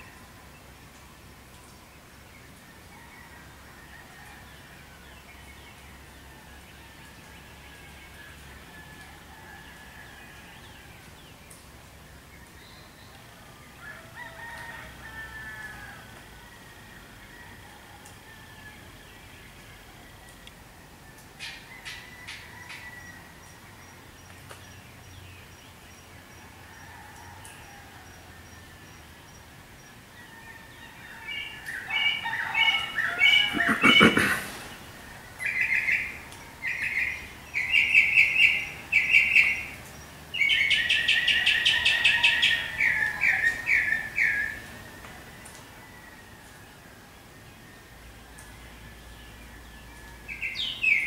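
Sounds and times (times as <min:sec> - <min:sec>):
songbird chirping: 0:00.0 - 0:14.8, 0:15.8 - 0:51.0
faint background birdsong: 0:00.0 - 0:51.0.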